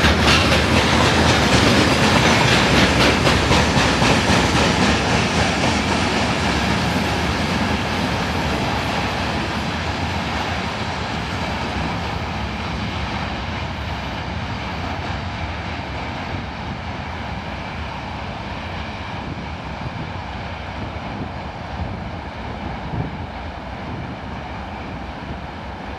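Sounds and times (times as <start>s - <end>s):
freight train rumbling on rails: 0.0s - 25.9s.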